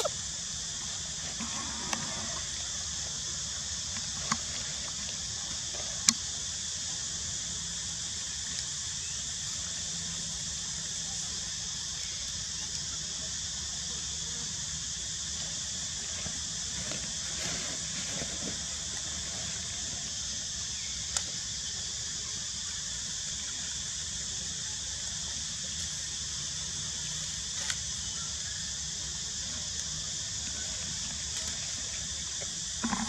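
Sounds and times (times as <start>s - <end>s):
high-pitched outdoor background hiss: 0.0s - 33.0s.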